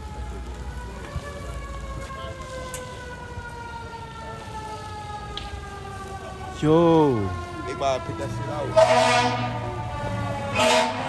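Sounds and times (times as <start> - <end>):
fire engine siren: 0.0 - 11.0.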